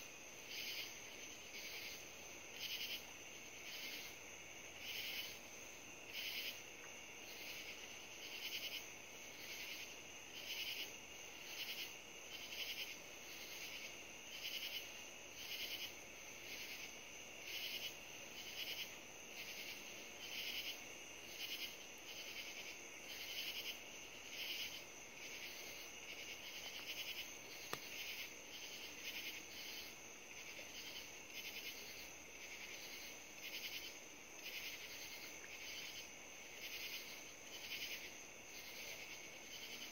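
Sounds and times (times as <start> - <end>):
night insects rasping chorus: 0.0 - 39.9.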